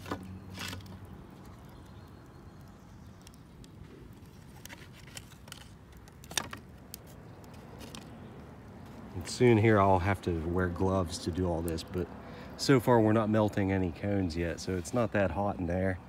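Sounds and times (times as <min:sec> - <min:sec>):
faint background noise: 0:00.0 - 0:16.0.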